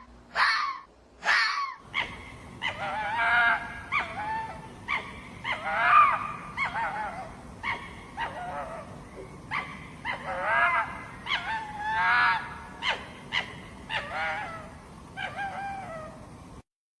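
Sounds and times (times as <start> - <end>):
fox yelping and whining: 0.0 - 16.2.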